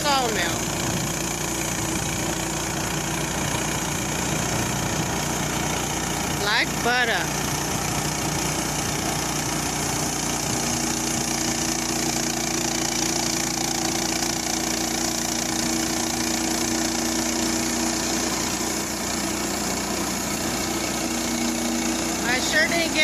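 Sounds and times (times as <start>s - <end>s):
band saw blade cutting log: 0.0s - 23.0s
small gasoline engine running: 0.0s - 23.0s.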